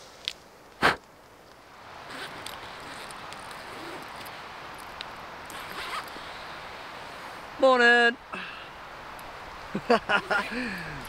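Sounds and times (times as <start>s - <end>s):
woodland ambience hiss: 0.0s - 11.0s.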